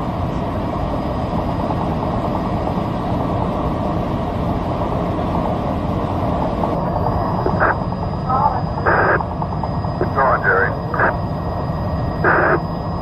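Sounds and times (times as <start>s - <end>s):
aircraft engine drone: 0.0s - 13.0s.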